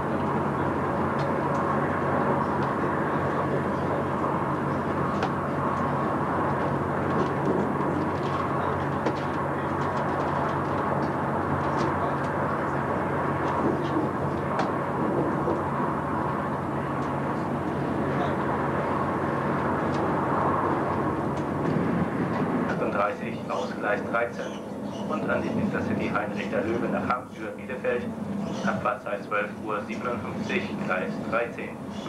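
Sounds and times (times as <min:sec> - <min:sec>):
train interior rumble: 0:00.0 - 0:32.0.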